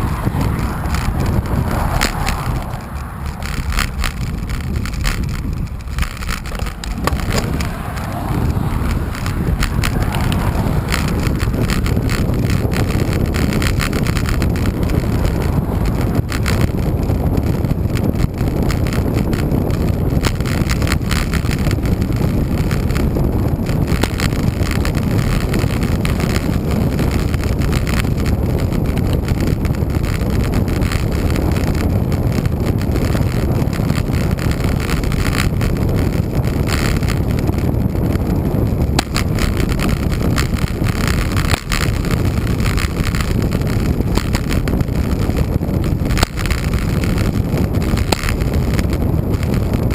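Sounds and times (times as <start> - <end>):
tyre and road noise: 0.0 - 49.9
wind buffeting microphone: 0.0 - 49.9.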